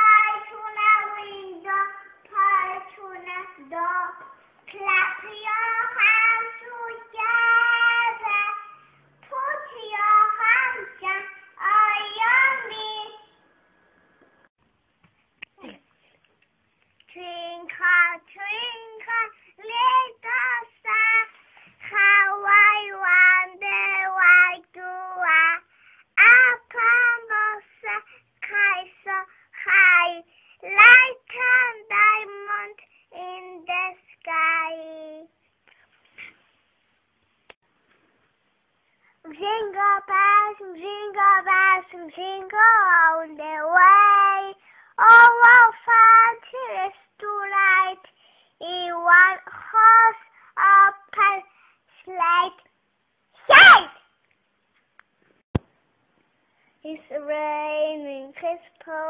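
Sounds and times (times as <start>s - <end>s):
child singing: 0.0s - 13.4s, 17.1s - 35.4s, 39.2s - 52.7s, 56.8s - 59.0s.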